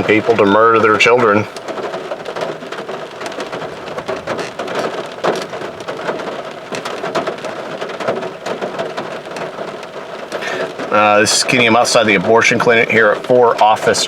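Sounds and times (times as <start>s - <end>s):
heavy rain on a car roof: 0.0s - 14.0s.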